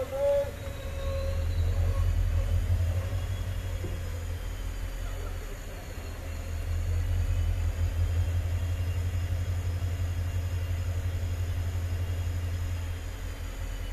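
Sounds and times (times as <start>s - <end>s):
train coach rumbling: 0.0s - 13.9s.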